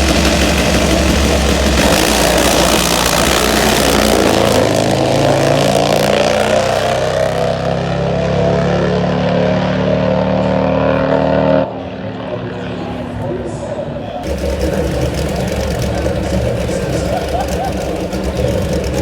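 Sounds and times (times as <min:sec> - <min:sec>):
drag motorcycle engine running loud: 0:00.0 - 0:19.0.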